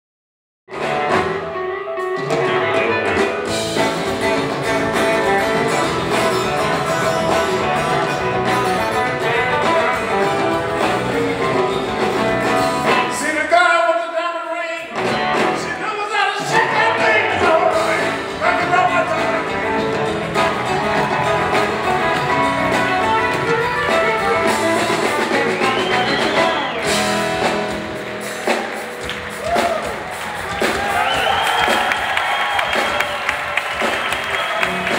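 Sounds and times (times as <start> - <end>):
live blues band playing: 0.7 - 34.9.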